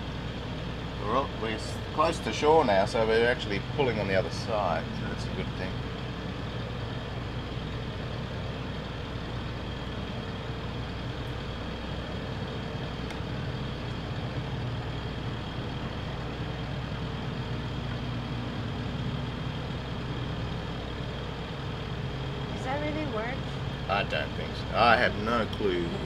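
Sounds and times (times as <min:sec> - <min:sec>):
boat engines running: 0:00.0 - 0:26.0.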